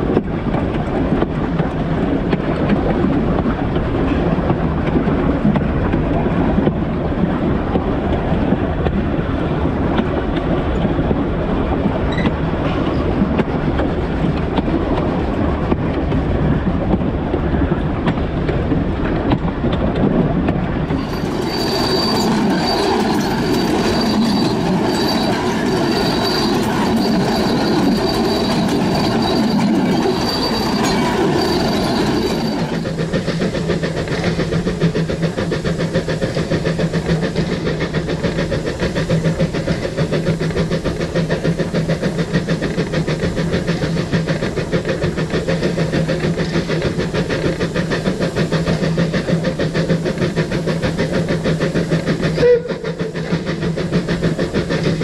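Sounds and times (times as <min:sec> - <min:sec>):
steam train running: 0:00.0 - 0:55.0
wheels rumbling on rail: 0:00.0 - 0:55.0.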